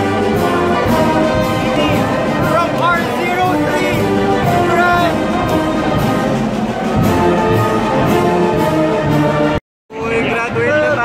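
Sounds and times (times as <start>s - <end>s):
orchestral music with brass: 0.0s - 11.0s.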